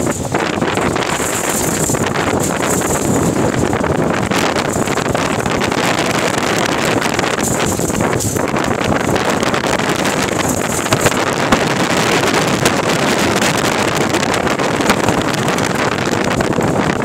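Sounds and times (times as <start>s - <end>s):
vehicle engine and tyres on dirt: 0.0s - 17.0s
wind buffeting microphone: 0.0s - 17.0s.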